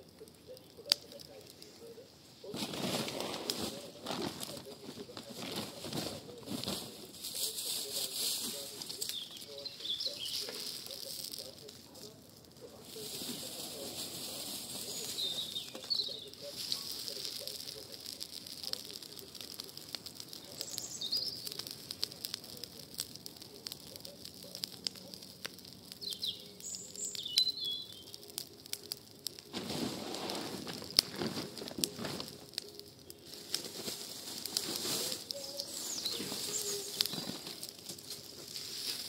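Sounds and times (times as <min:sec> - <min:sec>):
small birds chirping: 0:00.0 - 0:29.7, 0:30.3 - 0:39.0
fire crackling and popping: 0:00.0 - 0:39.0
fire hissing: 0:00.0 - 0:39.0.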